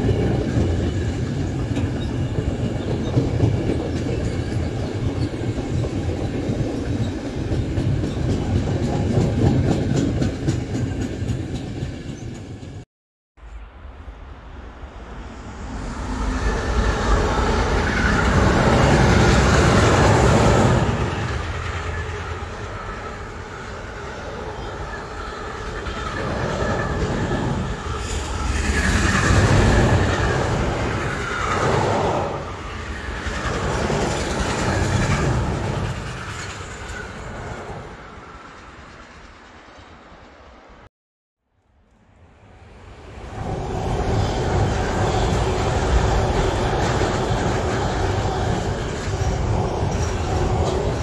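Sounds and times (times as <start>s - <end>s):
train passing on rails: 0.0s - 12.8s, 13.5s - 40.9s, 41.8s - 51.0s.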